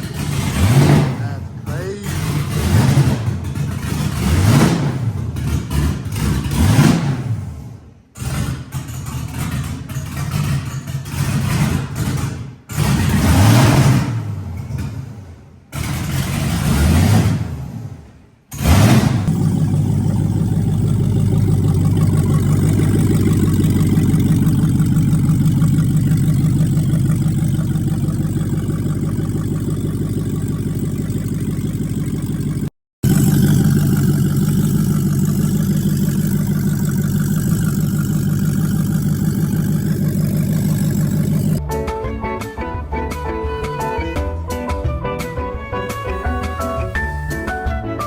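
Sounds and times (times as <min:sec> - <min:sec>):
car engine idling: 0:00.0 - 0:41.6.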